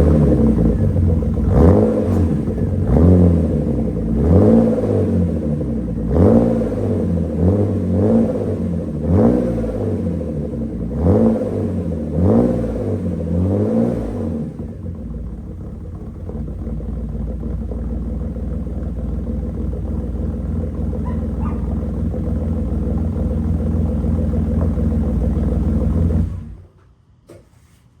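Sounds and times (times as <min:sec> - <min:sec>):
car engine revving and idling: 0:00.0 - 0:26.7.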